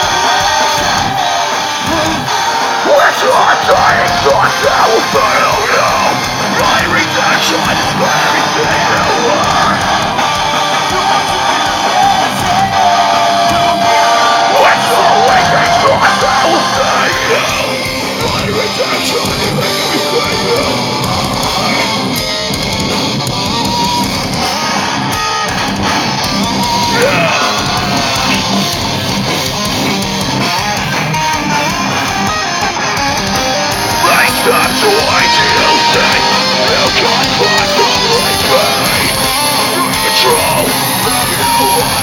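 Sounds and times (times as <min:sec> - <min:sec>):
distorted electric guitars: 0:00.0 - 0:42.0
drums: 0:00.0 - 0:42.0
rock band playing live: 0:00.0 - 0:42.0.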